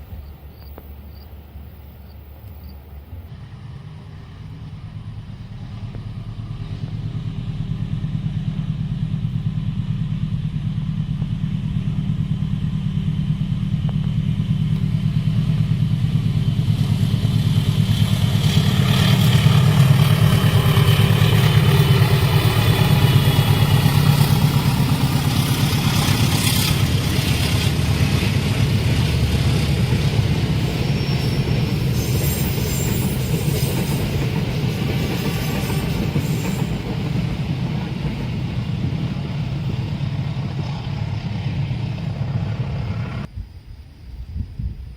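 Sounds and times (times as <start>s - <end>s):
train wheels rumbling and clattering: 0.0s - 43.4s
diesel train engine drone: 0.0s - 44.0s.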